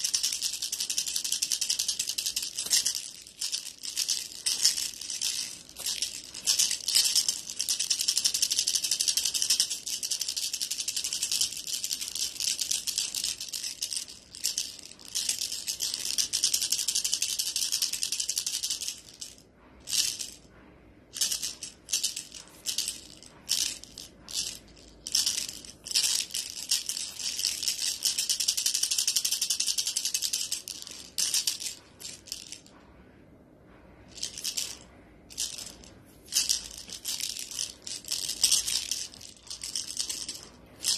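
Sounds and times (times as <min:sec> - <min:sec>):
cat toy rattling: 0:00.0 - 0:20.4, 0:21.1 - 0:32.7, 0:34.1 - 0:40.9.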